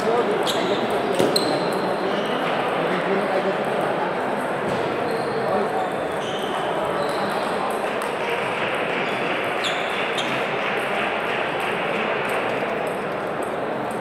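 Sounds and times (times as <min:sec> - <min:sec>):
din of voices and movement: 0:00.0 - 0:14.0.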